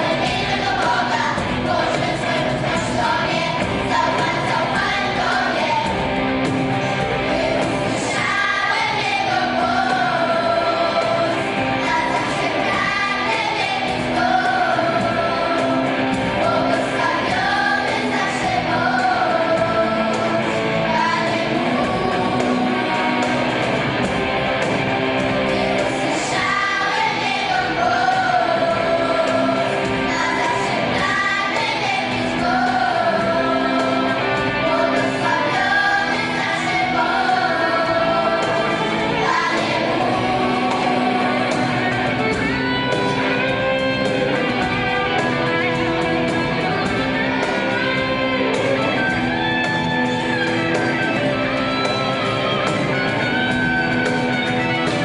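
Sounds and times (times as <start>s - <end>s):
acoustic guitar: 0.0s - 55.0s
cajon: 0.0s - 55.0s
children's choir singing: 0.0s - 55.0s
keyboard: 0.0s - 55.0s.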